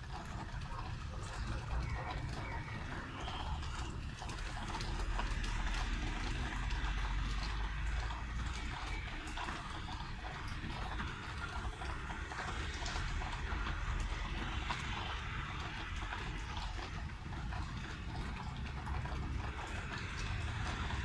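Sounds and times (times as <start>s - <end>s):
rain drops pattering on hard surfaces: 0.0s - 21.0s.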